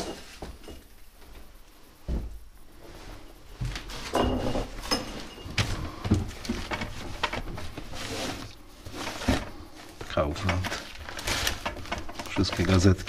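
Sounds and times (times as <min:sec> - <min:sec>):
knocks and scrapes in wardrobe: 0:00.0 - 0:13.0
rustling of cardboard and paper: 0:02.1 - 0:13.0.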